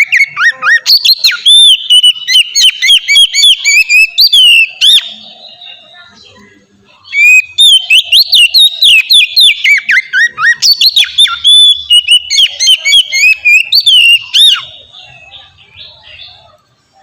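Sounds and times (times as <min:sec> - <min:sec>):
bird singing whistled notes: 0:00.0 - 0:06.4, 0:07.0 - 0:17.0.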